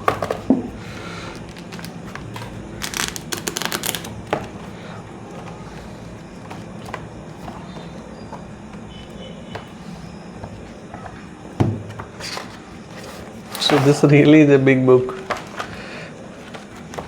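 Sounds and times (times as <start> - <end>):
book pages rustling and crinkling: 0.0 - 14.2, 15.1 - 17.0.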